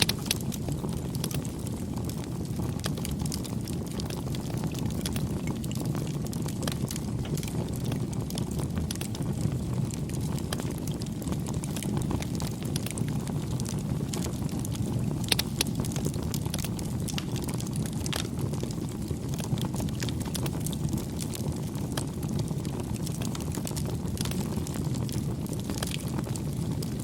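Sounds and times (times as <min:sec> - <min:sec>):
low rush of flames: 0:00.0 - 0:27.0
wood fire crackling and popping: 0:00.0 - 0:27.0.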